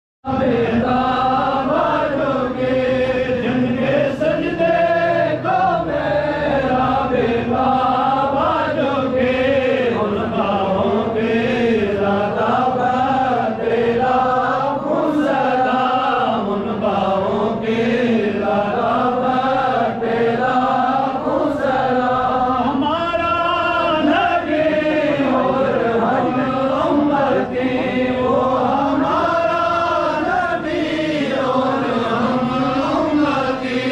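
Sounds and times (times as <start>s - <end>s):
slow wavering vocal chant: 0.3s - 33.9s.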